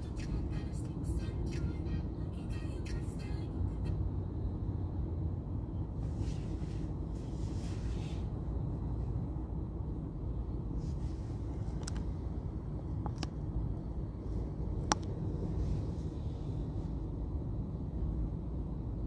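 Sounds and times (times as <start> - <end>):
car engine rumble inside cabin: 0.0 - 19.0.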